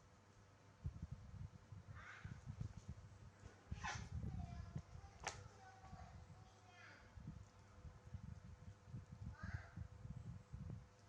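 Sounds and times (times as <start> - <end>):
faint low thumps and rumbling: 0.8 - 11.0.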